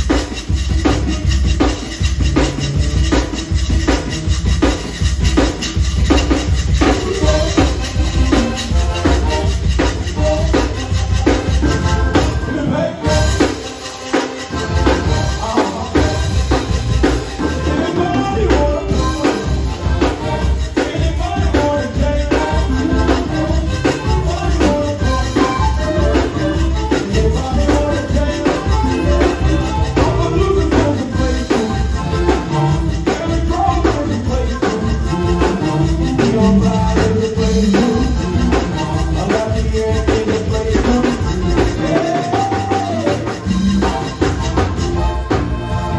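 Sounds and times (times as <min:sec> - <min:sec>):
accordion melody: 0:00.0 - 0:45.9
bass: 0:00.0 - 0:45.9
drum beat: 0:00.0 - 0:45.9.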